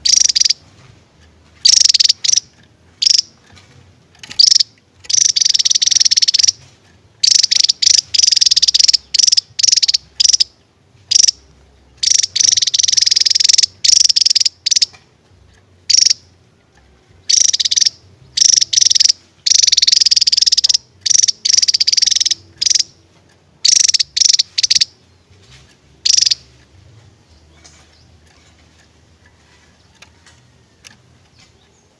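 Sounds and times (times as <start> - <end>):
bird trilling song: 0.0 - 0.8, 1.6 - 3.6, 4.2 - 15.0, 15.8 - 31.9.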